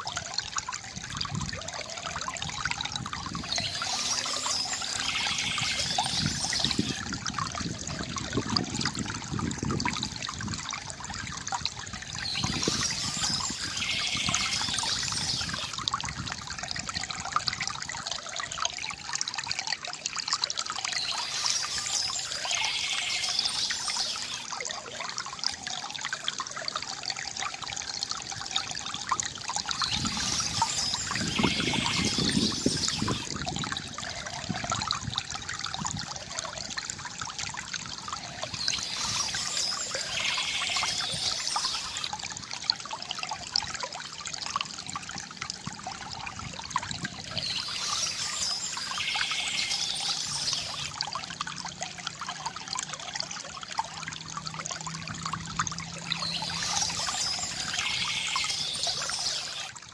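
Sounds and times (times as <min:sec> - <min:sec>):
fountain water trickling: 0:00.0 - 0:59.9.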